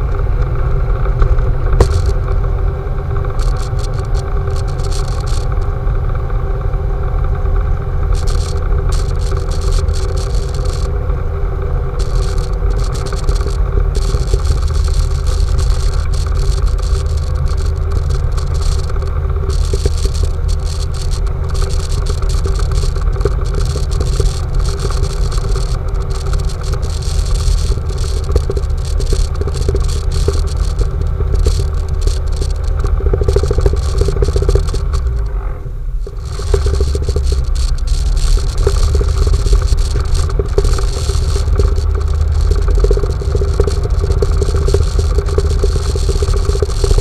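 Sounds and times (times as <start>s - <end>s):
off-road vehicle engine running: 0.0s - 47.0s
vehicle rattling and knocking: 0.1s - 35.4s, 36.0s - 47.0s.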